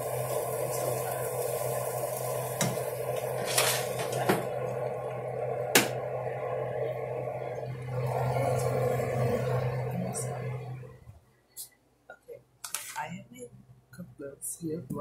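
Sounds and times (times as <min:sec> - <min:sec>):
steady appliance hum: 0:00.0 - 0:15.0.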